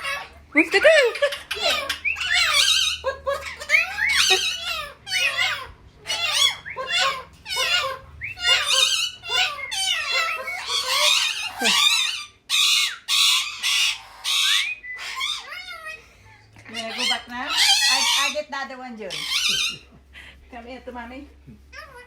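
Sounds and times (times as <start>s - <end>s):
parrot squawks: 0.0s - 19.9s
parrots chattering and whistling: 0.0s - 20.5s, 21.3s - 22.0s.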